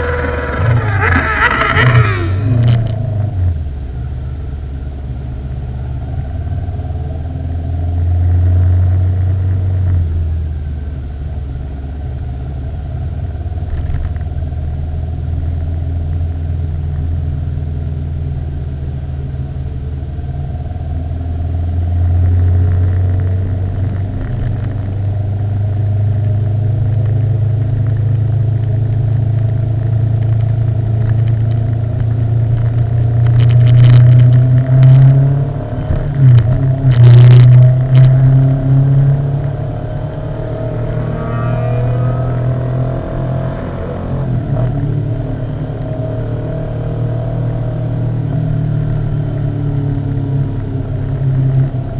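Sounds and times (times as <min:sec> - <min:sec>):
motorcycle engine droning: 0:00.0 - 0:51.9.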